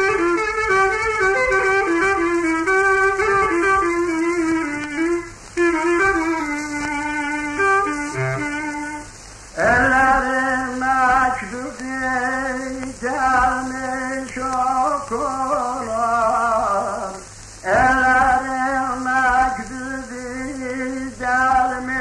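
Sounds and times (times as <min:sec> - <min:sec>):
man singing folk song: 0:00.0 - 0:22.0
record surface hiss: 0:00.0 - 0:22.0.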